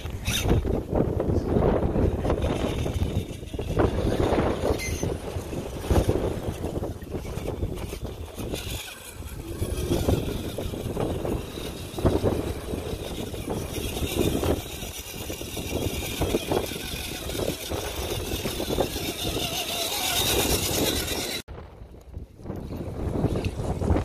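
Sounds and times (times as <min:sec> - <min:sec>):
electric motor whining: 0:00.0 - 0:21.5.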